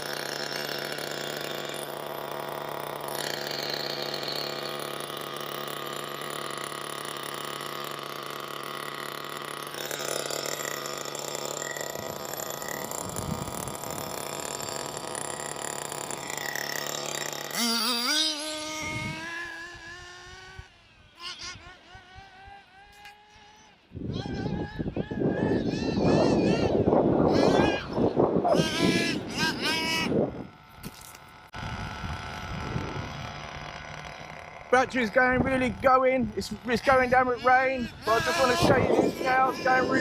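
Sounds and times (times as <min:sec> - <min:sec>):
nitro engine idling and revving: 0:00.0 - 0:40.0.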